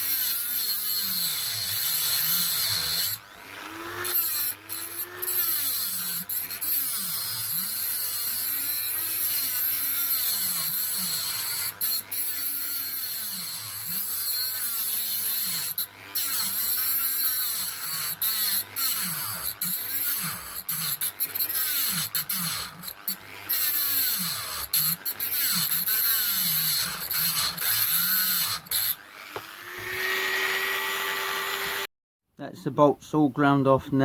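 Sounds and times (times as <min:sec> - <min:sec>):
grinder cutting metal: 0:00.0 - 0:31.9.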